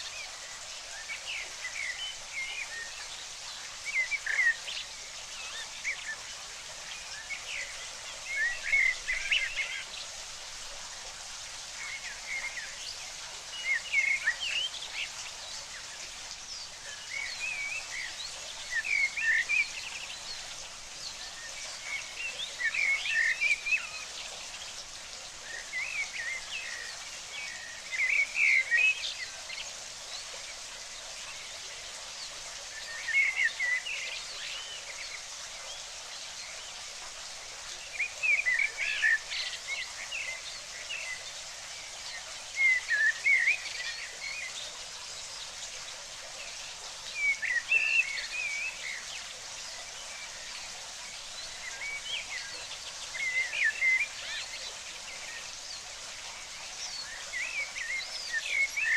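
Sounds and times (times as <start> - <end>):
running water: 0.0 - 58.9.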